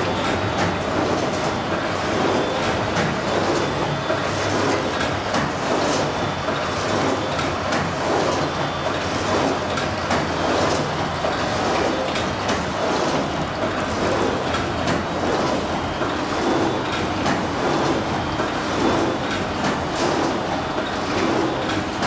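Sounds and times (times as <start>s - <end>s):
bookbinding machine clattering: 0.0s - 22.0s.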